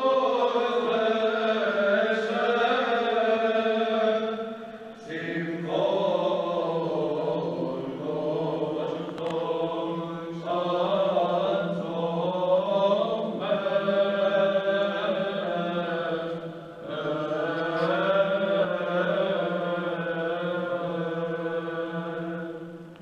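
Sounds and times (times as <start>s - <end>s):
male choir chanting: 0.0s - 22.9s.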